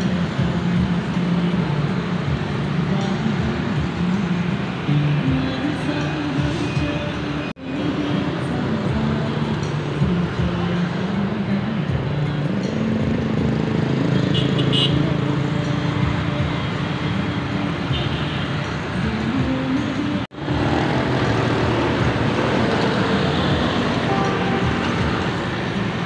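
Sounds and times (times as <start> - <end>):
motorbikes and scooters passing: 0.0 - 26.0.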